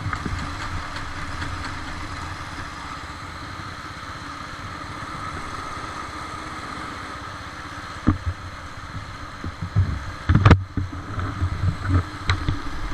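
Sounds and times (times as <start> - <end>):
kart engine running: 0.0 - 12.9.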